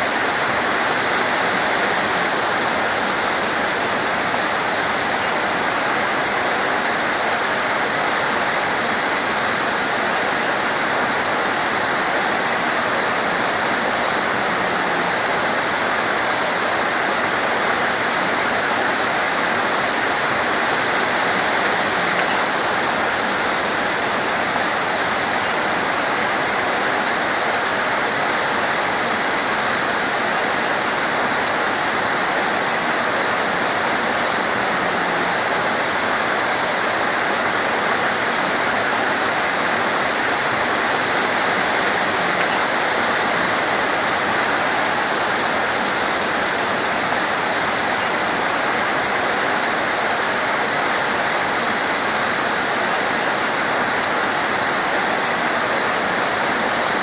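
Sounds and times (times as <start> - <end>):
torrential rain hiss: 0.0 - 57.0.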